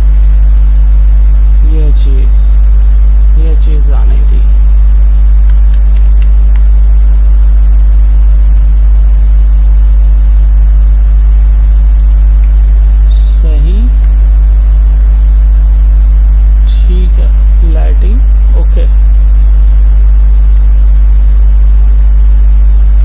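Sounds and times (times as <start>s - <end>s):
loud steady low hum: 0.0s - 23.0s.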